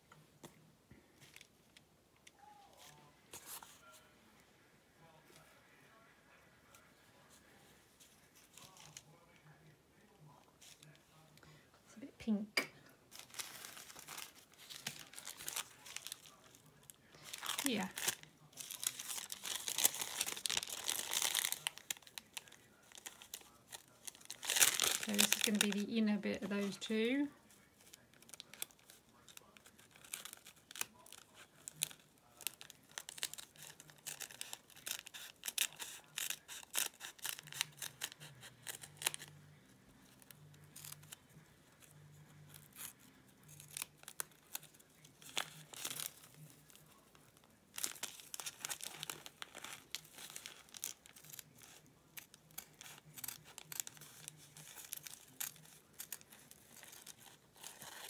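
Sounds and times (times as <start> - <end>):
paper crinkling: 1.2 - 4.1, 6.7 - 9.5, 13.1 - 58.0.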